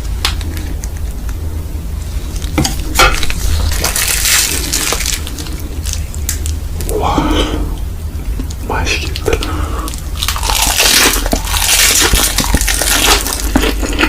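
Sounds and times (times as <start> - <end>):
crackly crunching rustle: 0.0 - 7.5, 8.2 - 14.0
steady low hum: 0.0 - 14.0.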